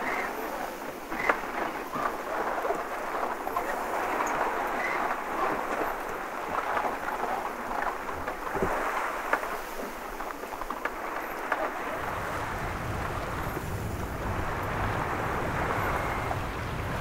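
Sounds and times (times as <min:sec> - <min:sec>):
sea water splashing against hull: 0:00.0 - 0:17.0
wind rumbling on microphone: 0:00.0 - 0:17.0.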